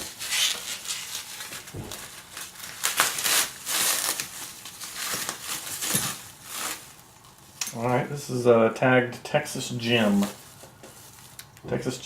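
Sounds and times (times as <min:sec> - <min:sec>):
packaging crinkling and rustling: 0:00.0 - 0:07.9, 0:09.8 - 0:11.6.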